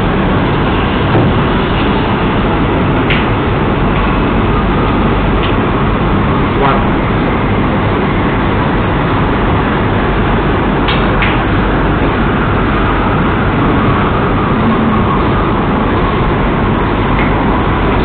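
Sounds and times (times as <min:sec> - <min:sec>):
room noise hiss and hum: 0:00.0 - 0:18.0.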